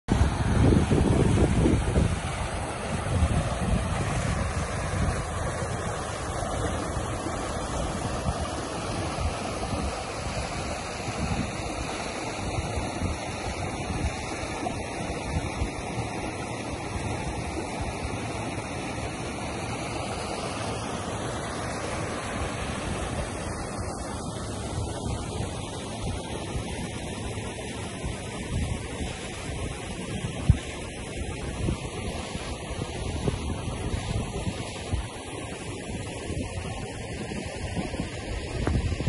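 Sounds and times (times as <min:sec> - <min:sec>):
wind buffeting microphone: 0:00.1 - 0:19.2, 0:22.0 - 0:39.0
river water rushing: 0:00.1 - 0:39.0.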